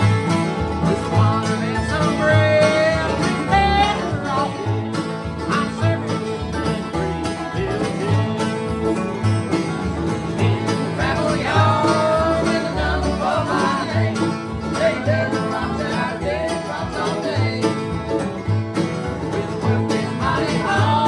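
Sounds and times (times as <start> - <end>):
acoustic guitars strumming: 0.0 - 21.0
sliding melody line: 0.0 - 21.0
upright bass notes: 0.0 - 21.0.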